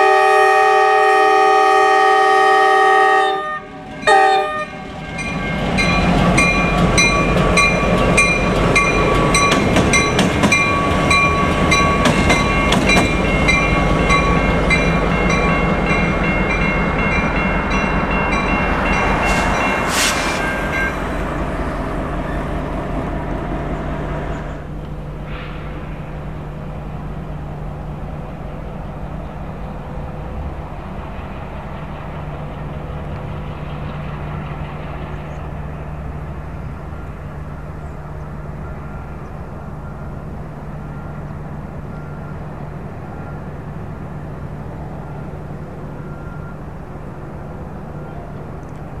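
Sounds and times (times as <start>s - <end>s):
diesel locomotive engine hum: 0.0s - 49.0s.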